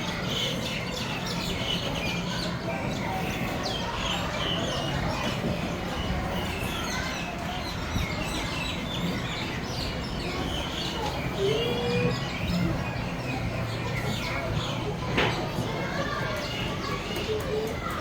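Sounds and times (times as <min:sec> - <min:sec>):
flock of small birds chirping: 0:00.1 - 0:18.0.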